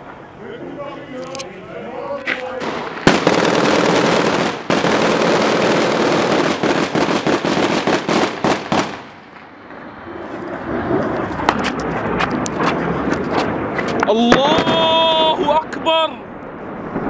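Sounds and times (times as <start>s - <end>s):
sharp cracks: 2.2s - 16.2s
bomb explosion blast: 2.6s - 17.0s.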